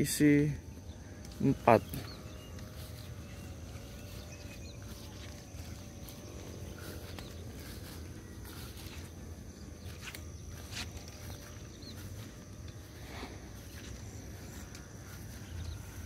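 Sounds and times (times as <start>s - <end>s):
faint chirps: 0.0s - 16.0s
faint high whine: 0.0s - 16.0s.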